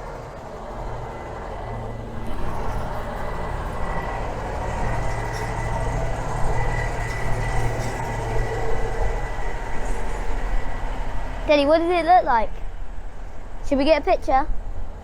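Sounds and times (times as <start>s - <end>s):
thin high whine: 0.0s - 13.5s
train engine rumble: 0.0s - 15.0s.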